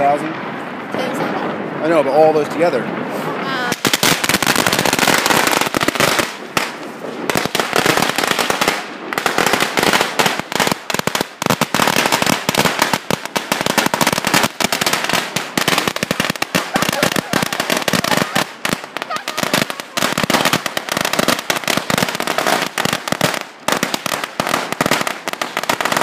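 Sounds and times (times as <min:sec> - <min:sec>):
firecrackers crackling: 0:00.0 - 0:26.0.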